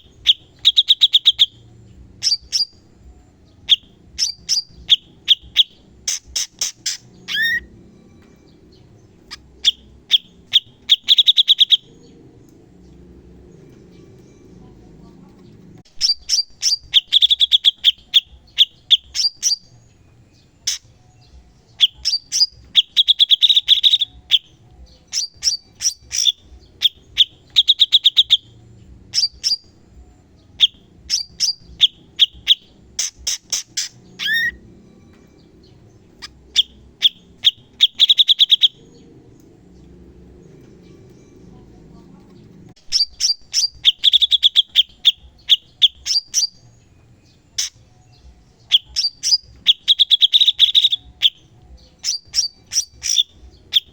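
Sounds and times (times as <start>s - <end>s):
bird singing rapid high notes: 0.0s - 53.9s.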